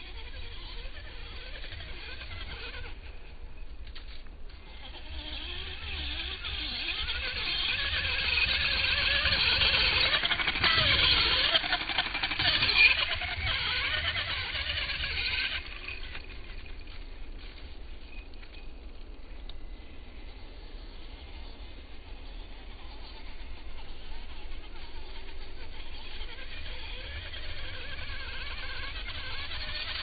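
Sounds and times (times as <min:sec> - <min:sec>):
rc car motor whining: 0:00.0 - 0:30.0.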